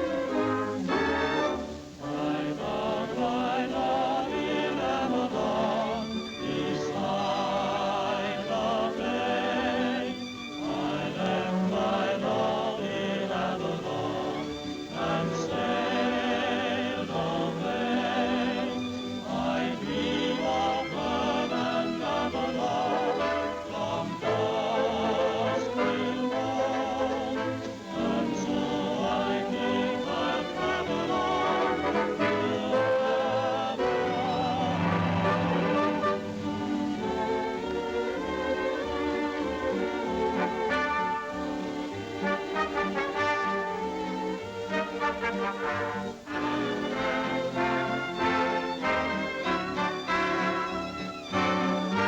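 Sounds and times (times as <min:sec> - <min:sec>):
choir singing: 0:00.0 - 0:52.0
orchestral film music: 0:00.0 - 0:52.0.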